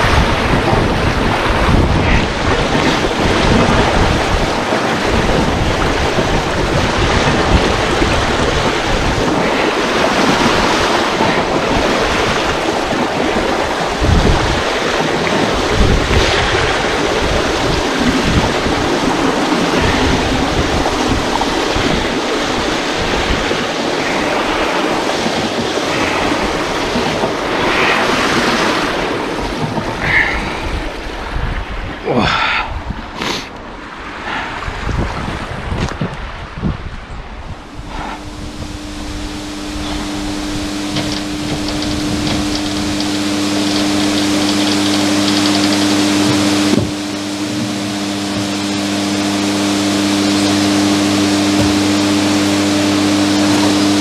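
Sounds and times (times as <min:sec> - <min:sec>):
water rushing through sluice gate: 0:00.0 - 0:35.8, 0:37.5 - 0:54.0.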